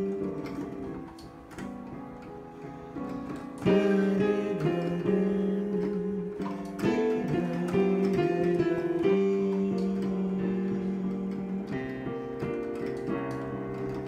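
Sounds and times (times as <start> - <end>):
digital piano tune: 0.0 - 14.0.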